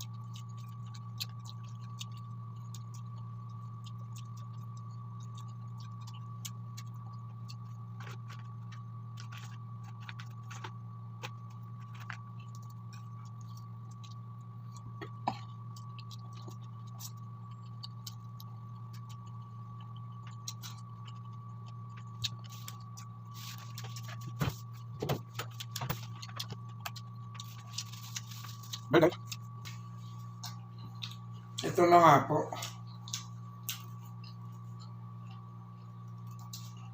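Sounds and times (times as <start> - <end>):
chewing and mouth sounds: 0.0 - 31.7
low hum: 0.0 - 36.9.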